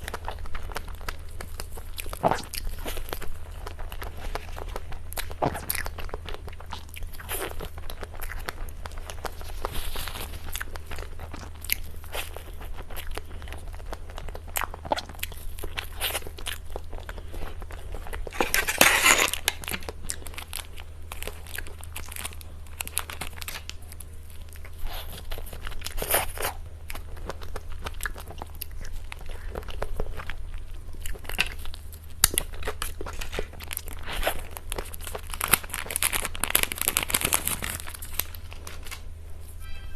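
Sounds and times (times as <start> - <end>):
person chewing and crunching cake: 0.0 - 39.5
steady low hum: 0.0 - 39.9.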